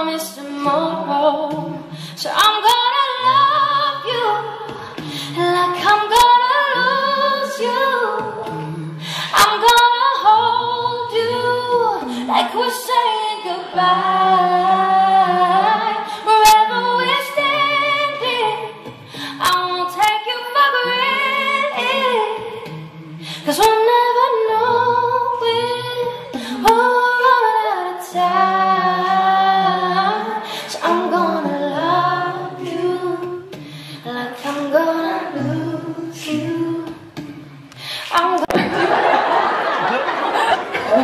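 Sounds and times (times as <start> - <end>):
woman singing into a microphone: 0.0 - 39.0.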